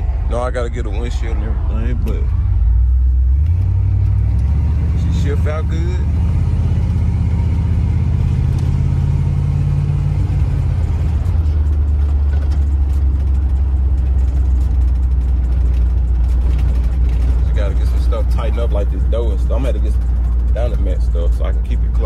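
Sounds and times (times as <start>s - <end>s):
engine and road drone: 0.0s - 22.0s.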